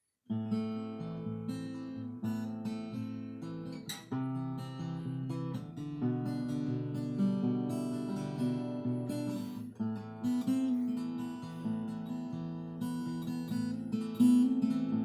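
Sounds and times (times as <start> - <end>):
acoustic guitar strummed: 0.3 - 15.0.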